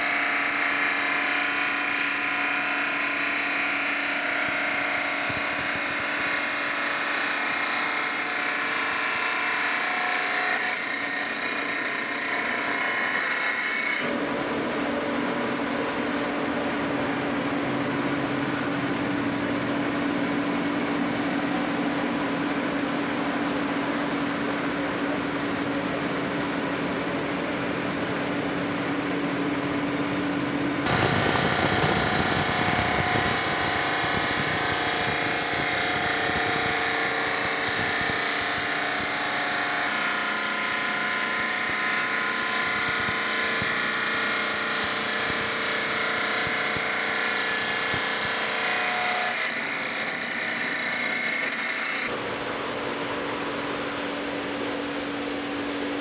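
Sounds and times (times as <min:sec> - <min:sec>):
stone cutting saw running: 0:00.0 - 0:56.0.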